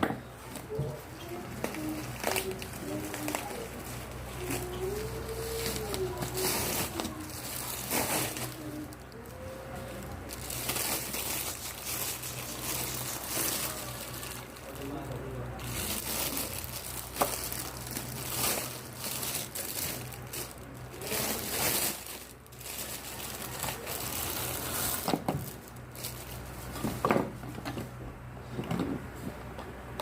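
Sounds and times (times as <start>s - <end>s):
packaging crinkling and rustling: 0.5s - 27.8s.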